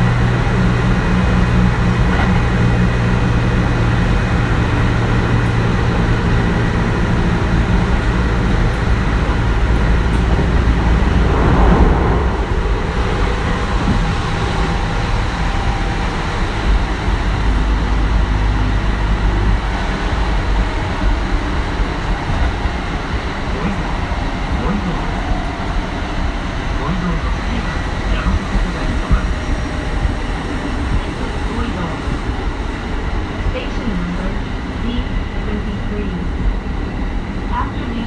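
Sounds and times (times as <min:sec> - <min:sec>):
wheel and rail running noise: 0:00.0 - 0:38.0.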